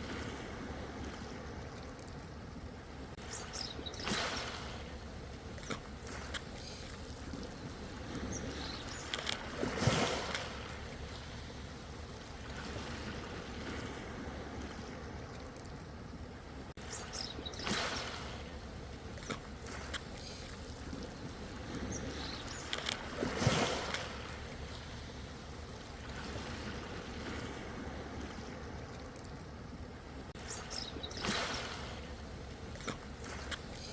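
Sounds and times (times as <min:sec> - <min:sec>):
ocean waves splashing on shore: 0:00.0 - 0:33.9.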